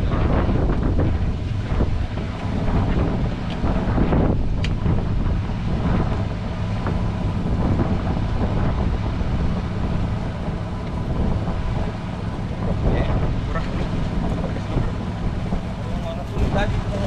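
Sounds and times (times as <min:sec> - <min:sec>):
boat engine humming: 0:00.0 - 0:17.0
wind buffeting microphone: 0:00.0 - 0:17.0.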